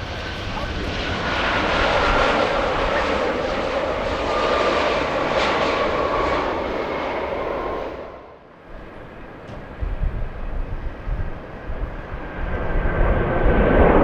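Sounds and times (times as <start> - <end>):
jet airliner engines roaring: 0.0 - 14.0
jet engine whine: 0.0 - 14.0.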